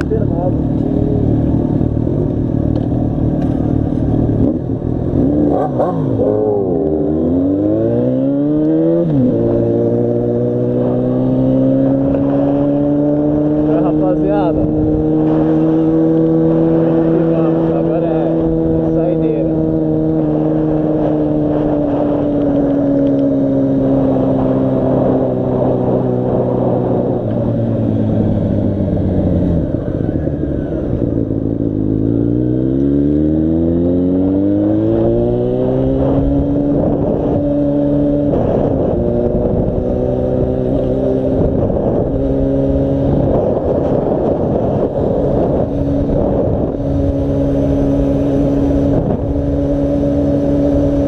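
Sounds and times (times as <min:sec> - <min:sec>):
motorcycle engine: 0:00.0 - 0:51.0.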